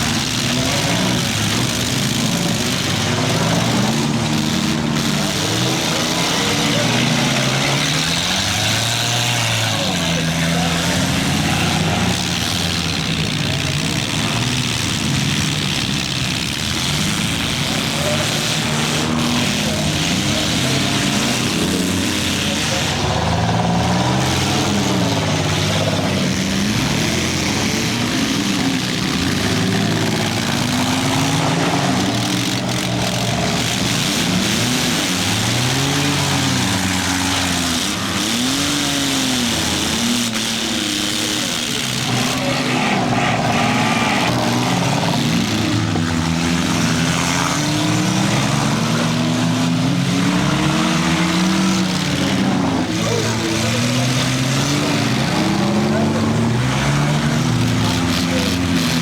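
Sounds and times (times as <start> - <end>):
small car engines revving: 0.0 - 59.0.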